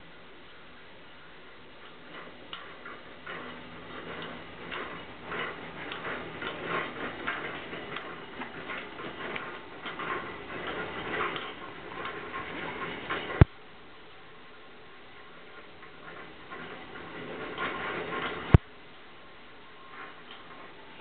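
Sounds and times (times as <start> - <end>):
drum turning with clicks and rattles: 0.4 - 21.0.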